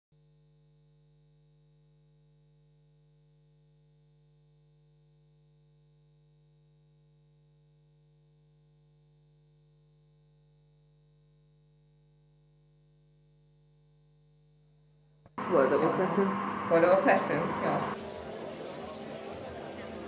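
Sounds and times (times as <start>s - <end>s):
faint steady hum: 0.2s - 20.0s.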